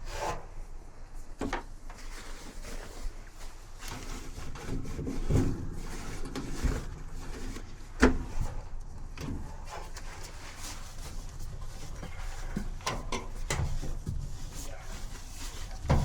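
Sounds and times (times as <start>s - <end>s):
rubbing and scraping handling noises: 0.0s - 16.0s.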